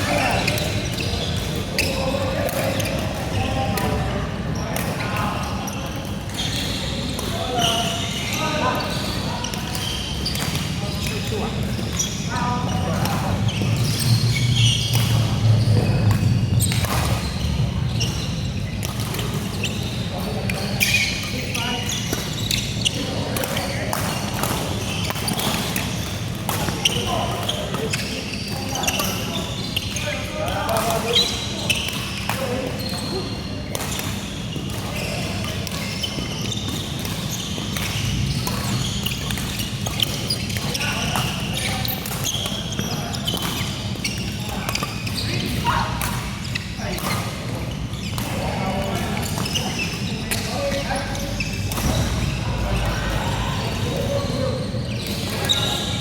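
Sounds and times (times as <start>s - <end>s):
people talking: 0.0s - 34.1s, 39.9s - 46.2s, 46.8s - 56.0s
shoe squeaks on court floor: 0.0s - 56.0s.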